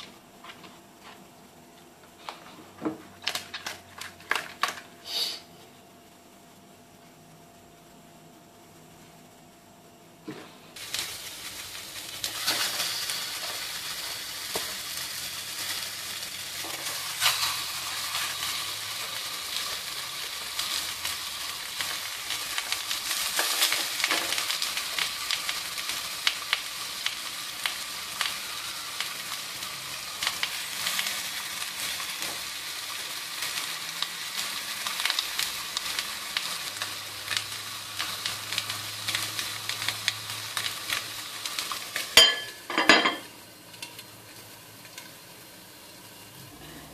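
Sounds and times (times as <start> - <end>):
fish sizzling in a pan: 3.1 - 5.5, 10.6 - 46.9.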